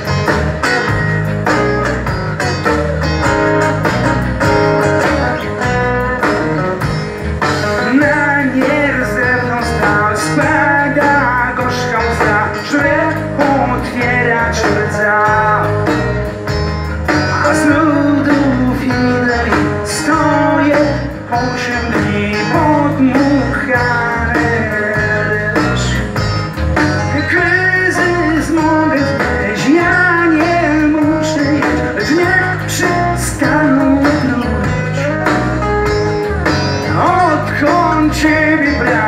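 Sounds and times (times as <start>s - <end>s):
live rock band playing: 0.0s - 39.0s
person singing lead vocal: 0.0s - 39.0s.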